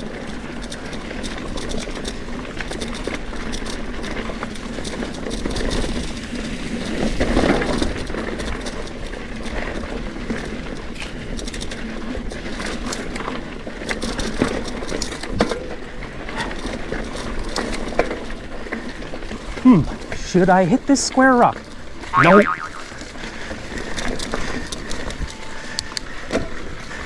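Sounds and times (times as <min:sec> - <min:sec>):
bike rattling clicks and knocks: 0:00.0 - 0:27.0.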